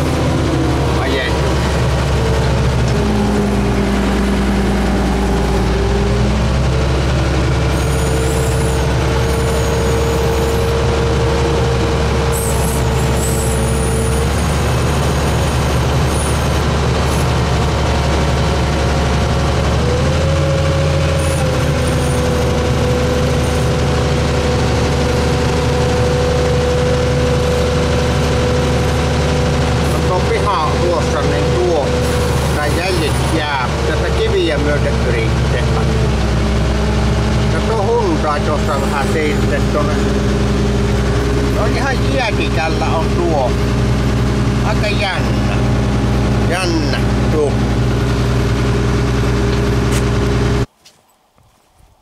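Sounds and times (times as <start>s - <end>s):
diesel engine running: 0.0s - 50.7s
drivetrain whine: 0.0s - 51.4s.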